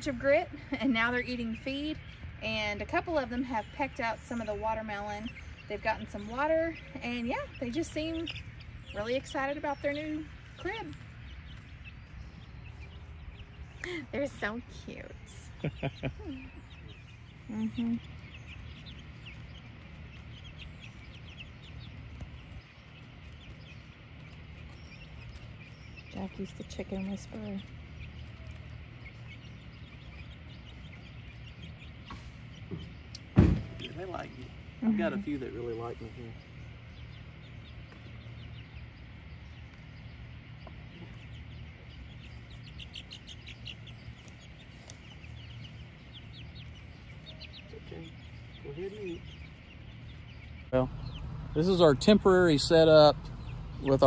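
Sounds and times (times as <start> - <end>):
chicks peeping: 0.0 - 54.0
low steady rumble: 0.0 - 54.0.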